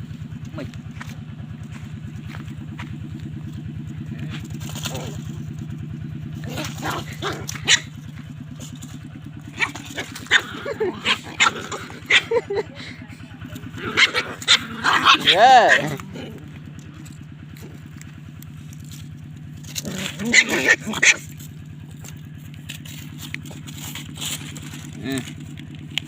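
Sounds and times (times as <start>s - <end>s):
dogs barking and snarling: 0.0s - 26.0s
engine running: 0.0s - 26.0s.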